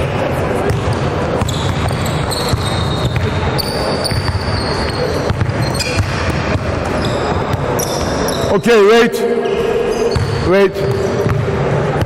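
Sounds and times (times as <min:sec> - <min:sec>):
sneakers squeaking on floor: 0:00.7 - 0:11.8.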